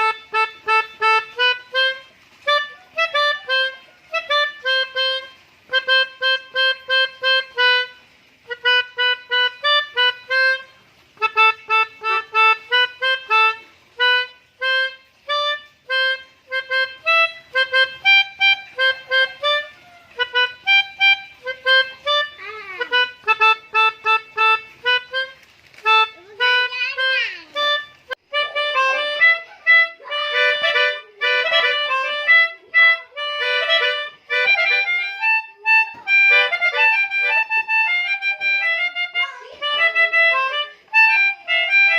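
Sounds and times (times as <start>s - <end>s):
melodica playing short notes: 0.0s - 41.9s.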